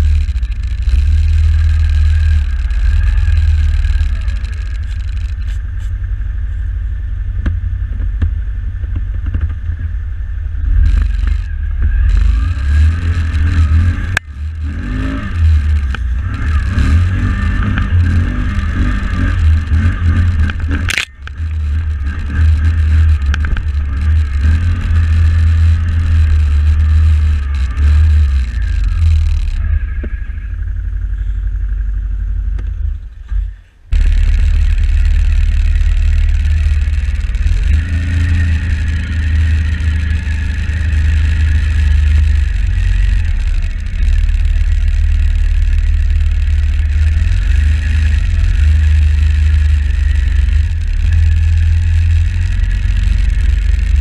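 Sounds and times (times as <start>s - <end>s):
engine running under varying throttle: 0.0s - 54.0s.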